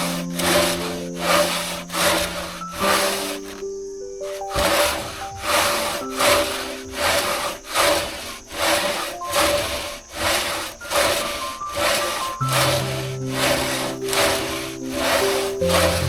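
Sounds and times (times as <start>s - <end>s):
hand saw rasping through wood: 0.0s - 3.6s, 4.2s - 16.0s
background music: 0.0s - 16.0s.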